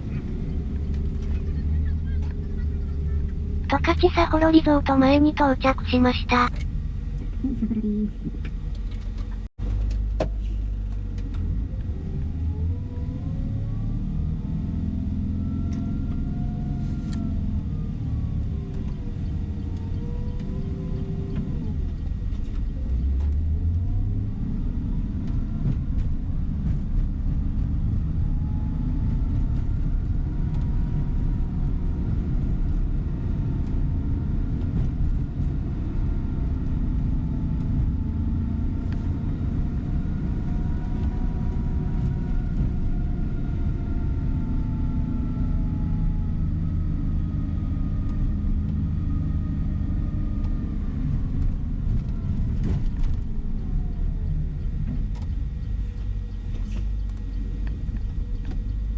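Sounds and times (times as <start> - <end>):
bus engine: 0.0 - 58.9
road rumble: 0.0 - 58.9.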